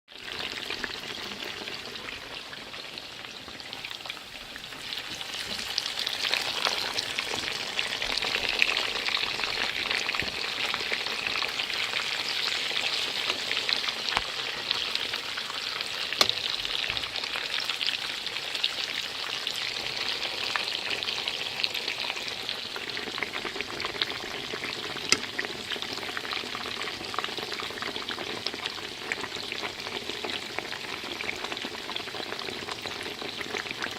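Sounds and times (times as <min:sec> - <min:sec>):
pork chops sizzling in a pan: 0:00.1 - 0:33.9.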